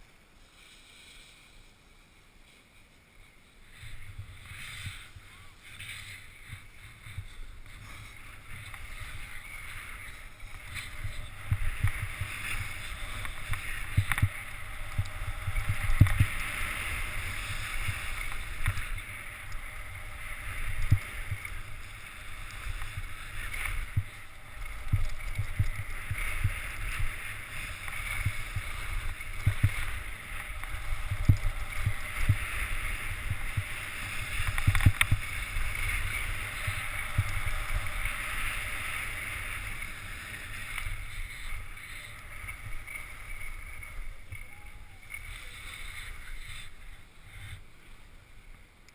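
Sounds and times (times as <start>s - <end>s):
skis scraping on snow: 0.0s - 48.7s
wind buffeting microphone: 3.7s - 47.0s.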